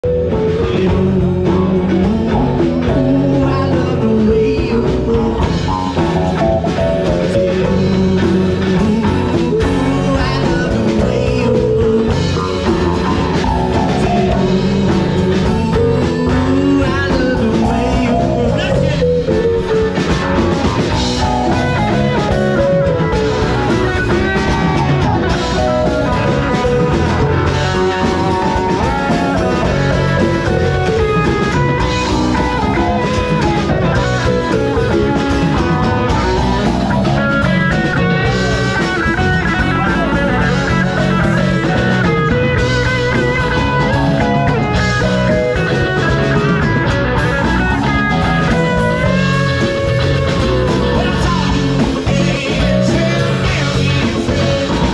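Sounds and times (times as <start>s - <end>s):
folk rock band playing: 0.0s - 54.9s.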